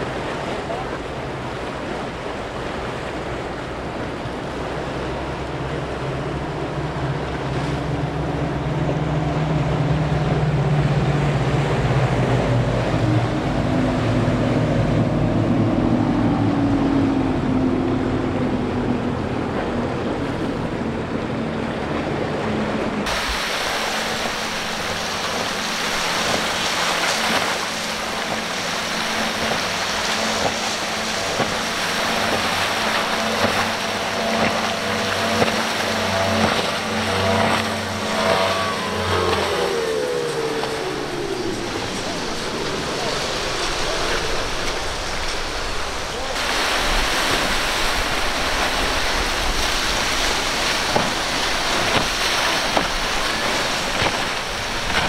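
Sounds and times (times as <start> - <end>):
boat engines passing at speed: 0.0 - 55.0
distant boat engine: 0.0 - 55.0
rush of spray and wake: 0.0 - 55.0
waves: 0.0 - 55.0
wind: 0.0 - 55.0.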